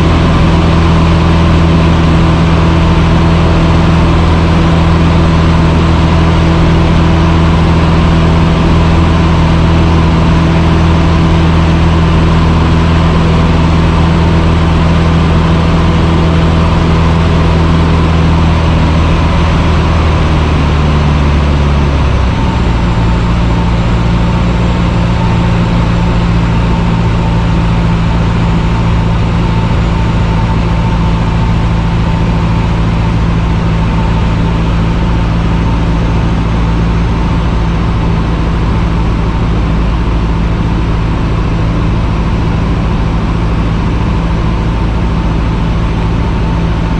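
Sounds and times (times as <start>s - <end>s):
airplane engine and propeller: 0.0s - 46.9s.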